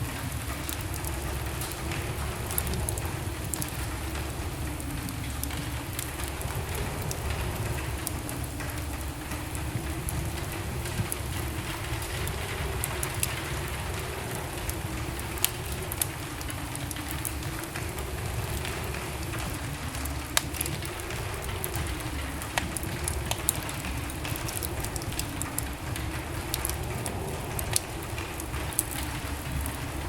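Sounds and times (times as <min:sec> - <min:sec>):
low rumble of flames: 0:00.0 - 0:30.0
wood fire crackling: 0:00.0 - 0:30.0.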